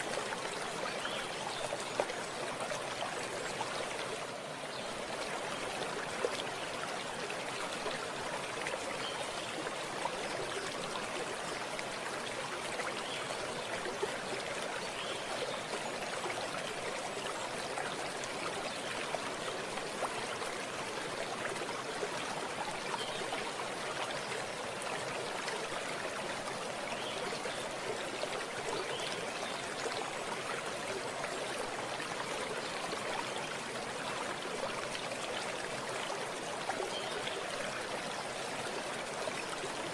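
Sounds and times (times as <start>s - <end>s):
water flowing over stones: 0.0s - 39.9s.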